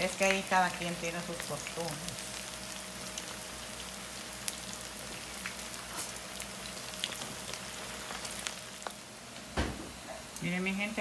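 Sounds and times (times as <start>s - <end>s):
slices frying in hot oil: 0.0s - 9.4s.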